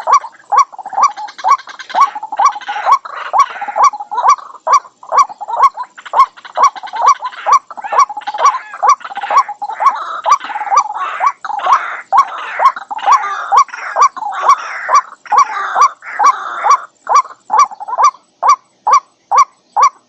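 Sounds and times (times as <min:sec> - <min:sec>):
harsh croaking calls: 0:00.0 - 0:20.0
waterhen calling: 0:00.0 - 0:20.0.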